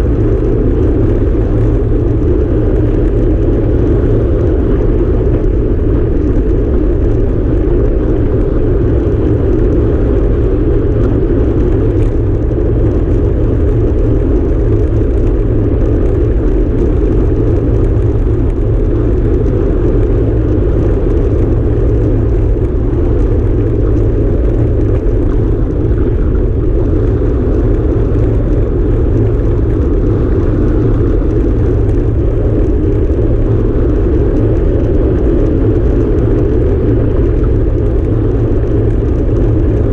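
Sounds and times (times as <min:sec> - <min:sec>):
bicycle tyres rolling on asphalt: 0:00.0 - 0:39.9
wind over microphone: 0:00.0 - 0:39.9.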